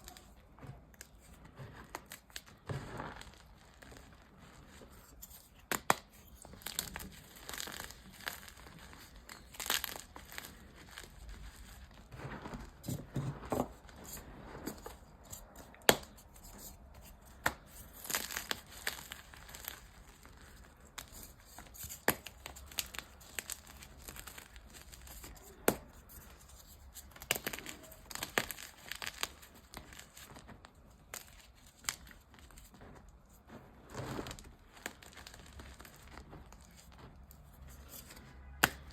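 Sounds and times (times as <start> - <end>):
chalk crunching and crumbling: 0.0 - 38.9.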